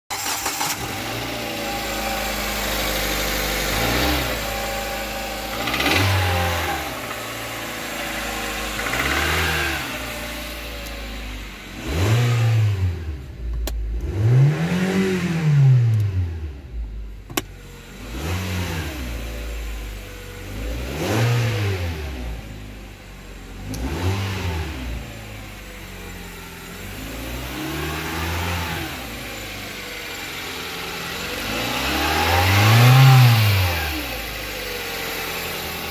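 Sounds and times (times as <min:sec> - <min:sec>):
petrol engine idling and revving: 0:00.1 - 0:35.9.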